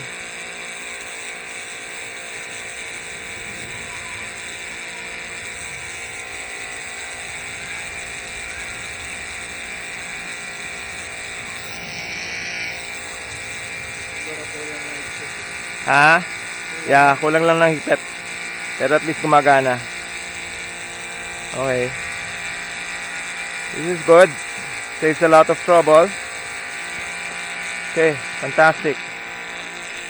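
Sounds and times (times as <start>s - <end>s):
pressure washer motor hum: 0.0s - 30.0s
water jet spraying on concrete: 0.0s - 30.0s.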